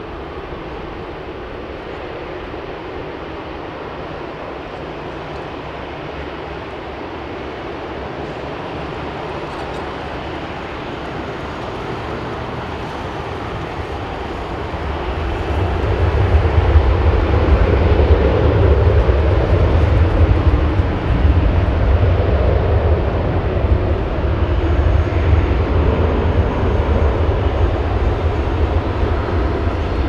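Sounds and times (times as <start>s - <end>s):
jet engines running up: 0.0s - 30.0s.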